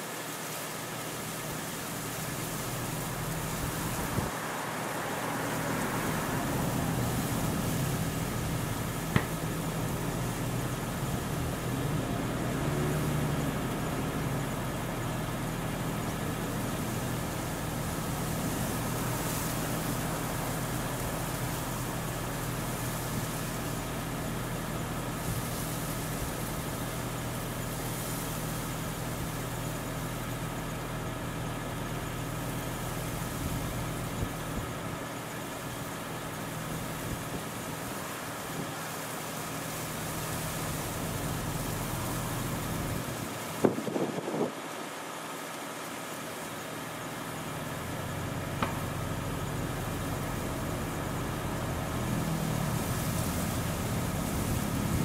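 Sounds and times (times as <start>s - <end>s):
hiss: 0.0s - 55.0s
low engine hum: 0.2s - 55.0s.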